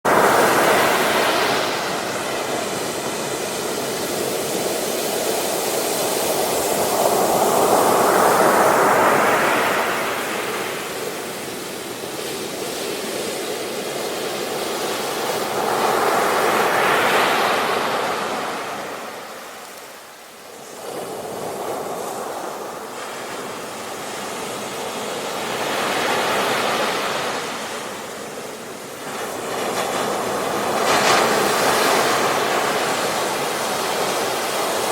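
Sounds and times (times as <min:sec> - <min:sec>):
sea waves washing onto beach: 0:00.1 - 0:34.9.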